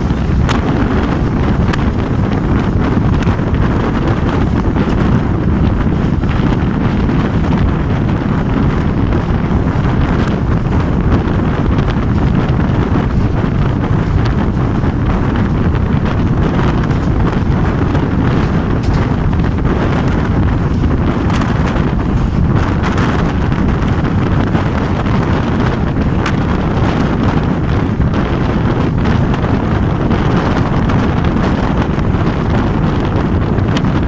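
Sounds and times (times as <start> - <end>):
train running noise: 0.0 - 34.0
wind buffeting microphone: 0.0 - 34.0.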